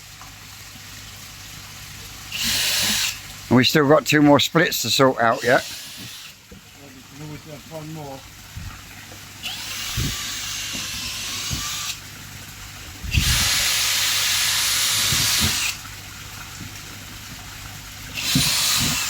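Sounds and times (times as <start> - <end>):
water hissing and spraying: 1.9 - 19.0.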